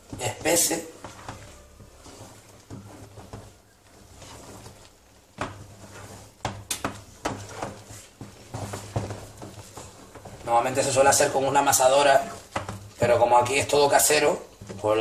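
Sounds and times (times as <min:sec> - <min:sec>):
wooden spoon scraping dough: 0:00.0 - 0:15.0.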